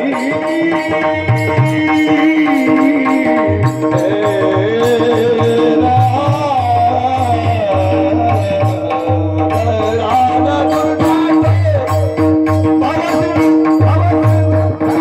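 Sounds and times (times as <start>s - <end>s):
devotional singing over loudspeakers: 0.0s - 15.0s.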